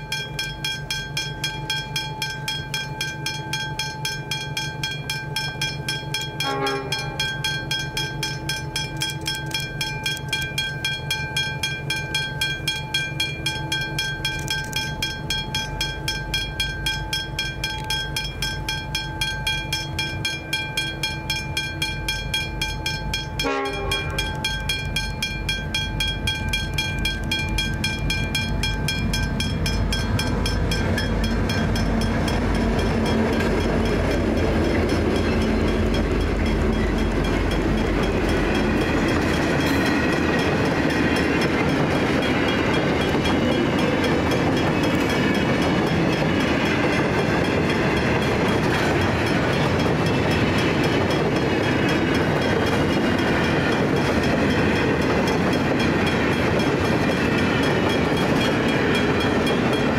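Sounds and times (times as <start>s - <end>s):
diesel locomotive rumble: 0.0s - 59.9s
level-crossing bell ringing: 0.0s - 59.9s.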